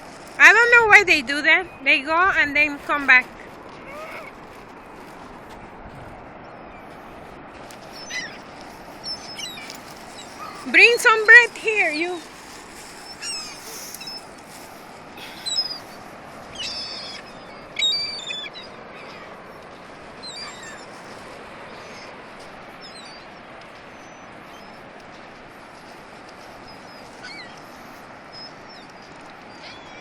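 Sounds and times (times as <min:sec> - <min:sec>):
gulls calling: 0:00.0 - 0:05.7, 0:06.3 - 0:30.0.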